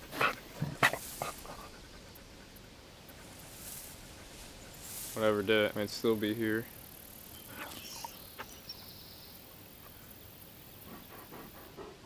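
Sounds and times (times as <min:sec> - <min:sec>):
insects chirring: 0:00.3 - 0:11.8.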